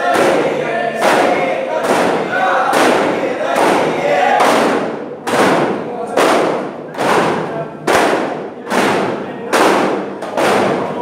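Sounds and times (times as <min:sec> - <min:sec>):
frame drums beating: 0:00.0 - 0:11.0.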